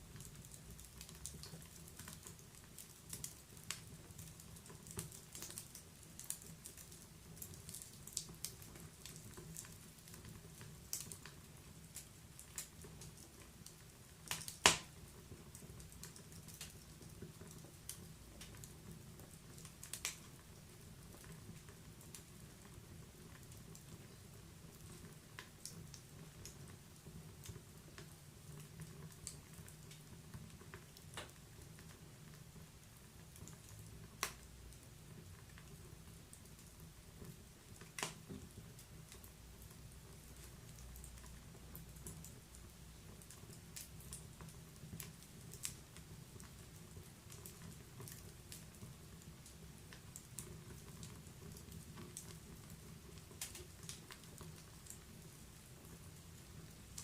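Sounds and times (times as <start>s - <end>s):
fire crackling and popping: 0.0s - 57.0s
low rumble of fire: 0.0s - 57.0s.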